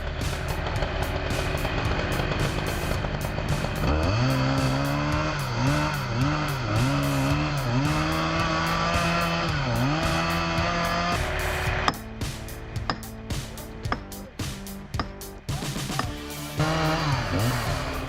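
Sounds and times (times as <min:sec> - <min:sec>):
background music: 0:00.0 - 0:18.0
chainsaw revving: 0:00.0 - 0:18.0.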